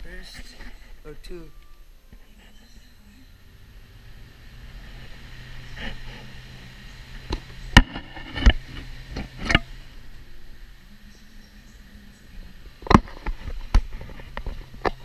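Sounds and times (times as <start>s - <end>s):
electric fan motor hum: 0.0s - 15.0s.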